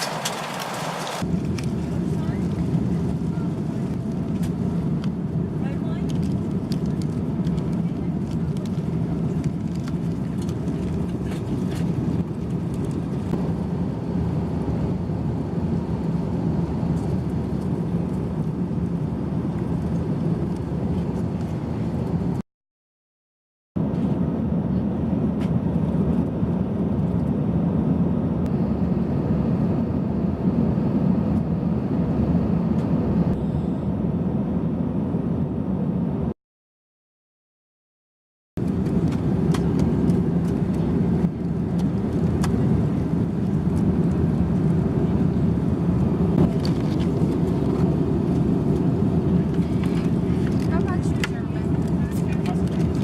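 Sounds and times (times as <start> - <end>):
airliner cabin engine drone: 0.0 - 22.4, 23.8 - 36.4, 38.6 - 53.0.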